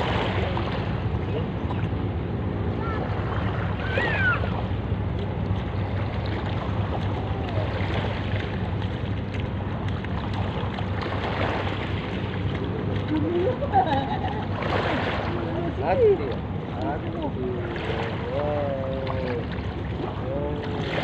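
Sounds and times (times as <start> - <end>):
sea water lapping: 0.0 - 21.0
steady low hum: 0.0 - 21.0.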